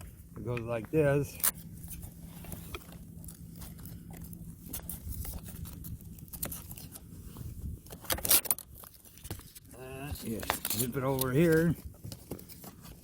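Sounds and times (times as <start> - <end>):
strap scraping: 1.3 - 13.0.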